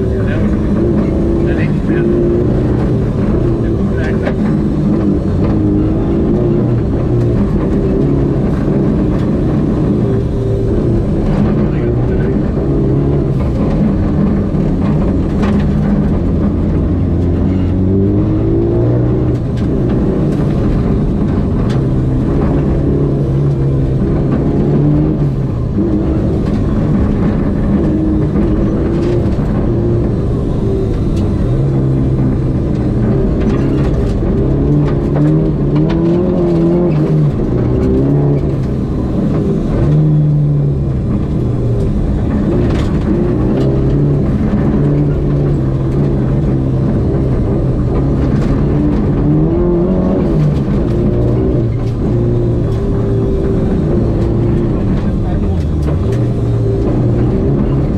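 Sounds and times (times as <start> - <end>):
gravel striking car: 0.0 - 57.9
rally car engine revving: 0.0 - 57.9.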